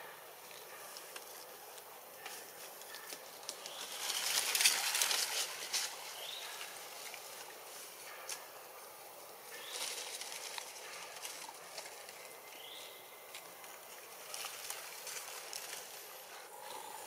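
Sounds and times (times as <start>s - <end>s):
dry leaves rustling and crackling: 0.5s - 17.0s.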